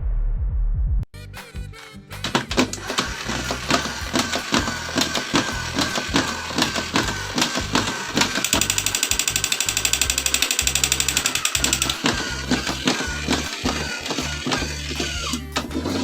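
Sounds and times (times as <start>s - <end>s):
background music with steady beat: 0.8s - 16.0s
fast rattling clicks: 2.6s - 15.7s.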